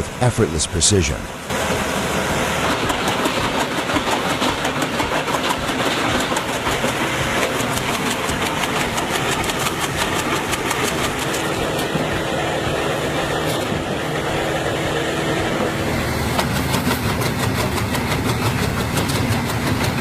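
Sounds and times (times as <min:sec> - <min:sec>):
wood chipper engine: 0:01.4 - 0:20.0.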